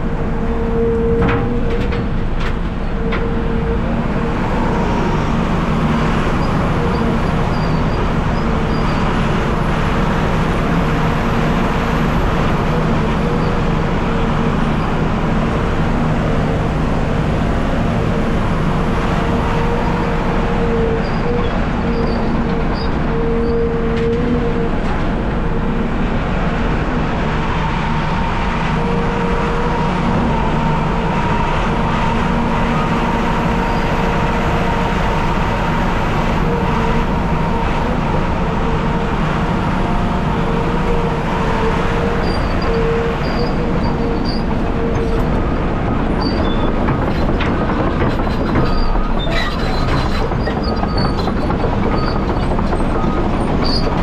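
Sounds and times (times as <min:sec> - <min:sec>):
truck engine rumbling: 0:00.0 - 0:54.0.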